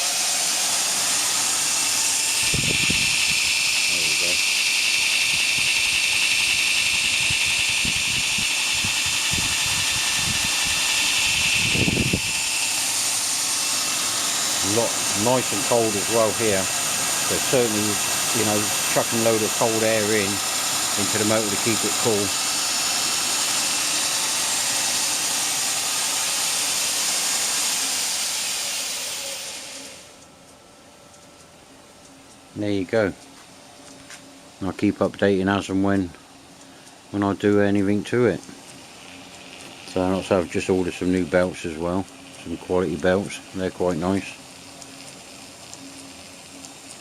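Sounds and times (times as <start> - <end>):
belt grinder whining: 0.0 - 30.2, 33.8 - 47.0.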